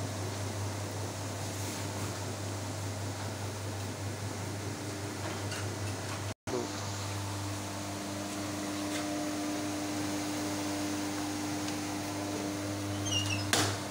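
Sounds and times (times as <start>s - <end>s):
feed mixer humming: 2.1s - 13.9s.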